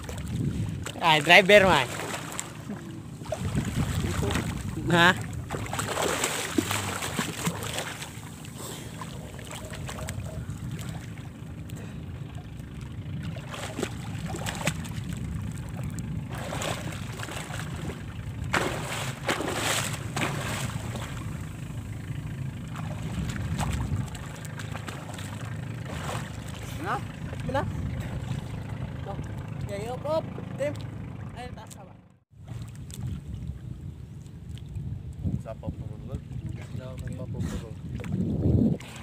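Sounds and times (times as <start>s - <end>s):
sea water sloshing and splashing: 0.0s - 35.3s, 36.2s - 39.0s
low steady rumble: 0.0s - 39.0s.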